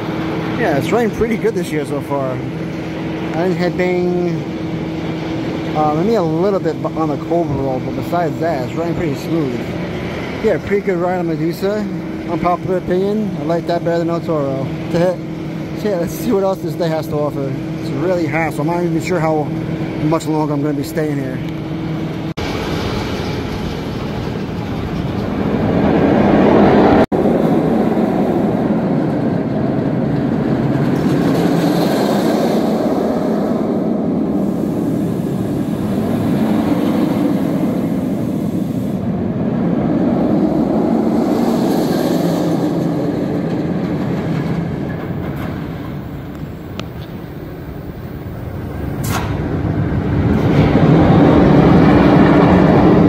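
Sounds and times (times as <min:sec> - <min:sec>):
roller coaster rumbling on track: 0:00.0 - 0:53.0.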